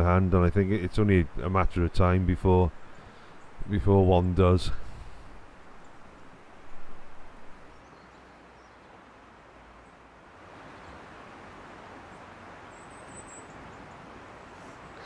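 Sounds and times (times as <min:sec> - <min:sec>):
rustle: 0:00.0 - 0:15.0
steady woodland hiss: 0:00.0 - 0:15.0.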